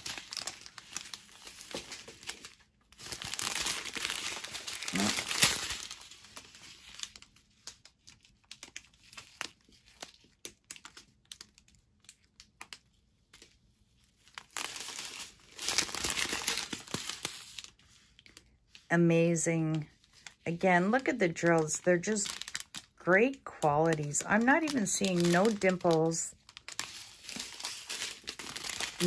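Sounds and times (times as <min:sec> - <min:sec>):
plastic bags crinkling: 0:00.0 - 0:18.7, 0:19.7 - 0:29.0.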